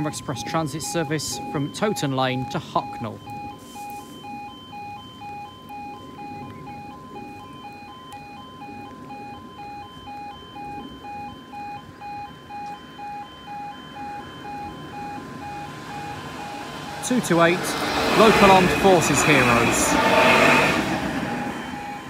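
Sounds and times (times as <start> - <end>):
level crossing alarm: 0.0 - 22.0.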